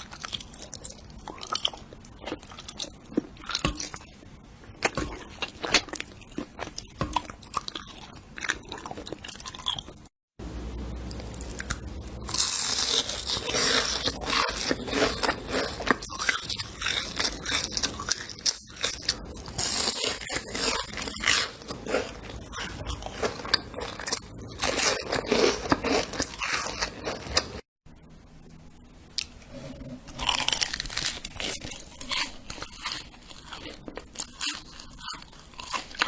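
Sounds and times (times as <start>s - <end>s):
crunchy chewing: 0.0s - 4.2s, 4.8s - 10.1s, 11.1s - 27.6s, 29.2s - 36.0s.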